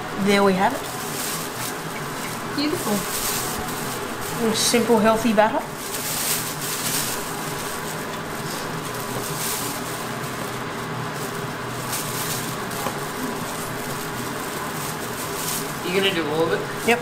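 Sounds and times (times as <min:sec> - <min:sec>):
low mechanical hum: 0:00.0 - 0:17.0
plastic bag crinkling: 0:00.0 - 0:17.0.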